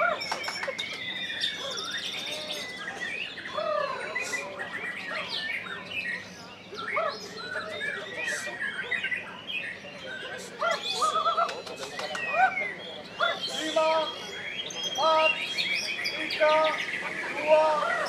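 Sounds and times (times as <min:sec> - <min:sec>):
bird singing varied whistled song: 0:00.0 - 0:18.0.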